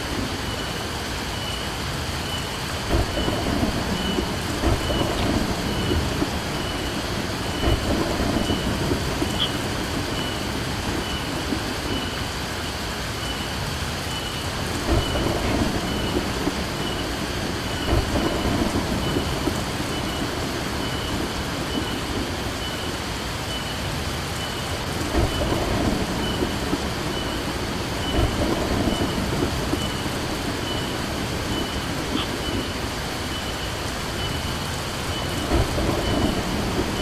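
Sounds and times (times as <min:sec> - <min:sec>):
heavy rain: 0:00.0 - 0:37.0
thunder rumbles: 0:00.0 - 0:37.0.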